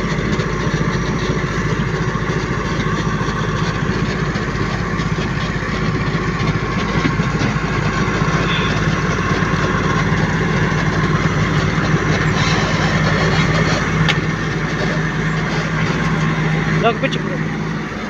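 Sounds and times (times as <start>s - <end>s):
construction machine engine idling: 0.0s - 18.0s.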